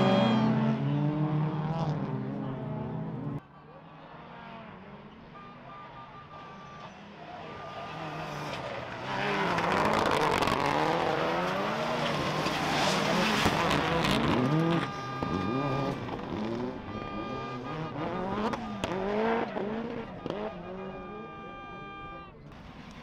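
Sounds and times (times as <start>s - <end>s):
race car engines revving: 0.0s - 23.0s.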